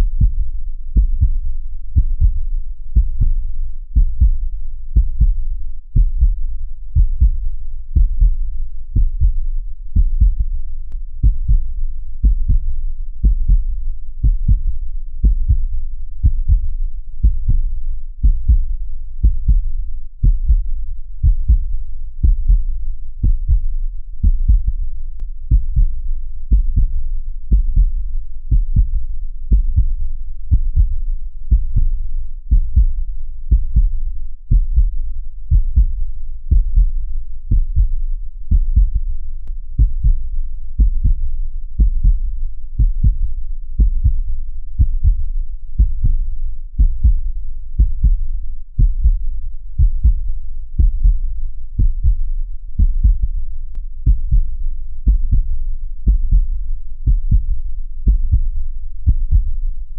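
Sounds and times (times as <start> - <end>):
heartbeat thumps: 0.0 - 59.7
constant deep rumble: 0.0 - 59.9.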